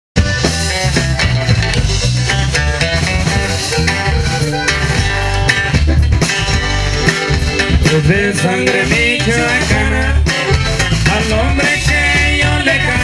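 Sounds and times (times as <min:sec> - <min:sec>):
accordion: 0:00.2 - 0:13.0
band playing instrumental music: 0:00.2 - 0:13.0.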